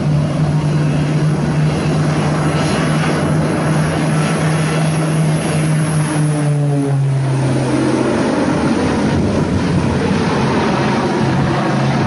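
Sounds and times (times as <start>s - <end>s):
propeller airplane droning overhead: 0.0s - 12.0s.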